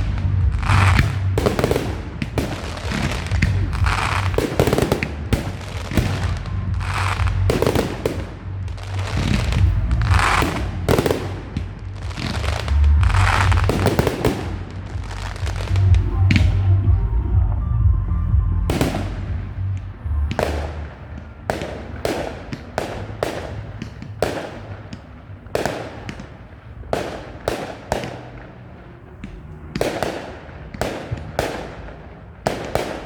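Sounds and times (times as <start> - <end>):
fireworks bangs and crackling: 0.0 - 33.0
low rumble: 0.0 - 33.0.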